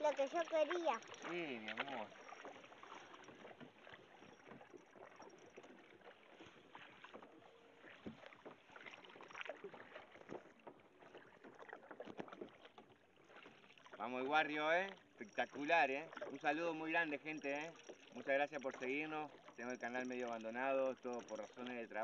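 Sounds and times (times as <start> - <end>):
kayak knocks: 0.0 - 22.0
water splashing: 0.0 - 22.0.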